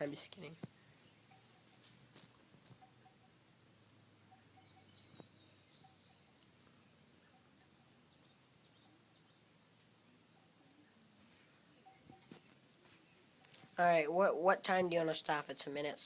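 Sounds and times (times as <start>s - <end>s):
faint high bird chirps: 0.0s - 3.6s, 4.2s - 13.8s.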